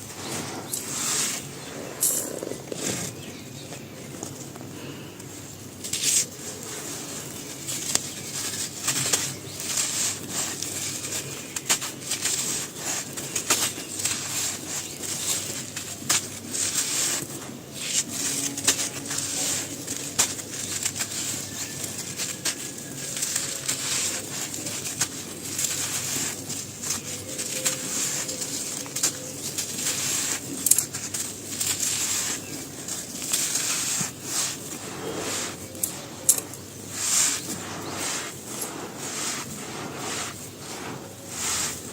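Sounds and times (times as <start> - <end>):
brittle material crunching: 5.8 - 41.9.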